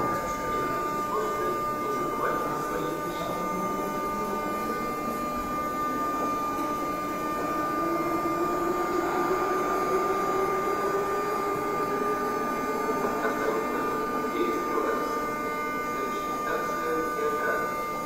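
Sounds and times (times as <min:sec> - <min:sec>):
train equipment hum with whine: 0:00.0 - 0:18.0
low drone rising in pitch: 0:01.9 - 0:17.9.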